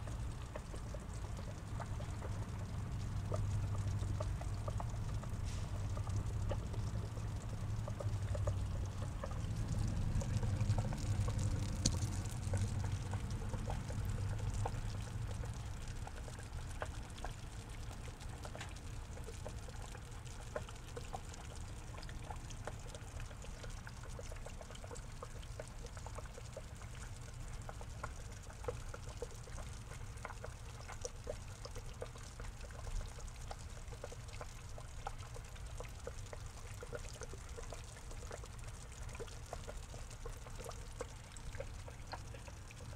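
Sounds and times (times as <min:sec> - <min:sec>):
faint ticks: 0:00.0 - 0:42.9
water trickling into pond: 0:00.0 - 0:42.9.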